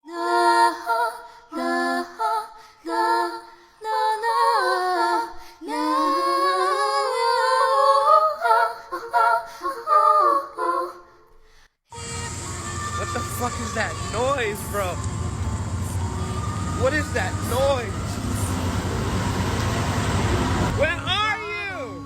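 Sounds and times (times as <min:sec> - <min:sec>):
woman singing wordless melody: 0:00.0 - 0:11.1, 0:12.0 - 0:18.7.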